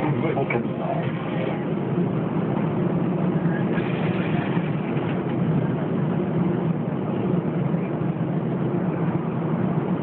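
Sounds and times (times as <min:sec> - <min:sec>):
airplane cabin jet engine hum: 0:00.0 - 0:10.0.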